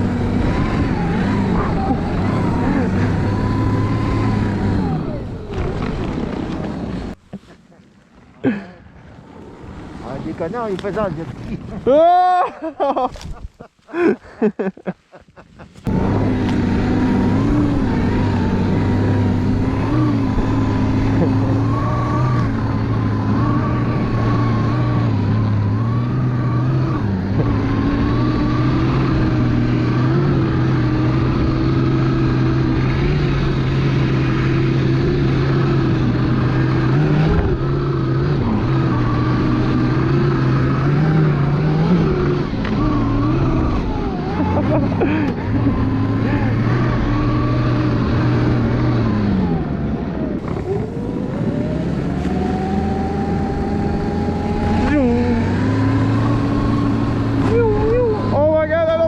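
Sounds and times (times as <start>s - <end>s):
electric motor and track hum: 0.0s - 7.2s, 15.9s - 59.0s.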